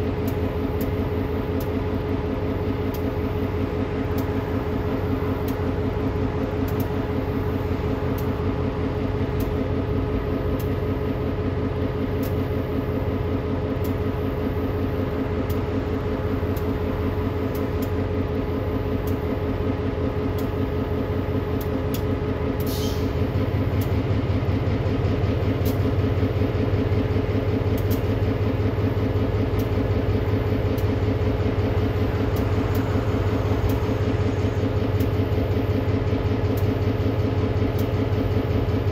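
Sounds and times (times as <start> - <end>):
diesel locomotive engine running: 0.0 - 38.9
freight cars rolling with clicks: 0.0 - 38.9.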